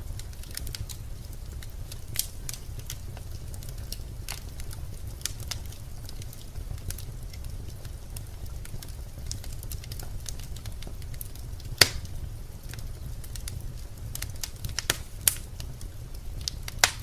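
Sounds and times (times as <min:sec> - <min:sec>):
fire crackles and pops: 0:00.0 - 0:17.0
fire rumbling in a fireplace: 0:00.0 - 0:17.0.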